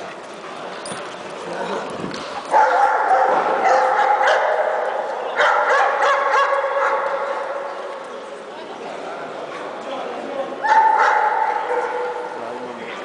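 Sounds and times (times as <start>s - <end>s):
dogs barking in a large hall: 1.6s - 13.0s.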